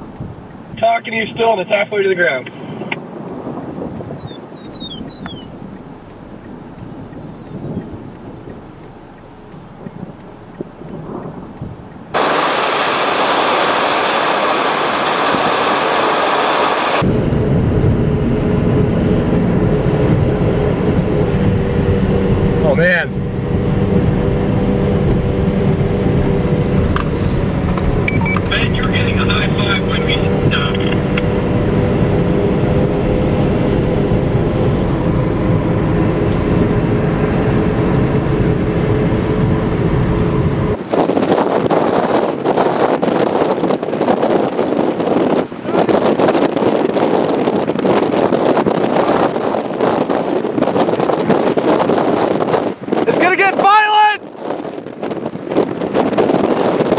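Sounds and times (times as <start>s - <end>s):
storm wind hiss: 0.0s - 4.6s, 5.4s - 23.1s, 24.8s - 32.4s, 33.0s - 56.9s
car road noise: 0.0s - 56.9s
low rumbling wind: 0.0s - 56.9s.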